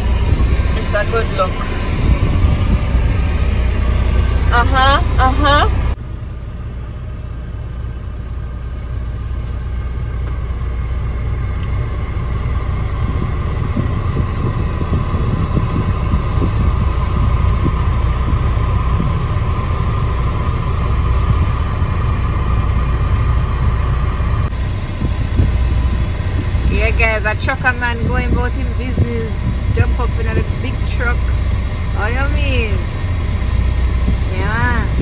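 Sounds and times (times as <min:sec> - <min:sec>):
steady high whine: 0:00.0 - 0:35.0
truck diesel engine rumble: 0:00.0 - 0:35.0.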